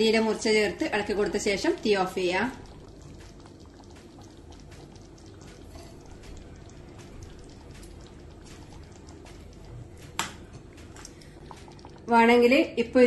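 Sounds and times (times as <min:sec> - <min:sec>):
bubbles popping in simmering sauce: 0:00.0 - 0:13.0.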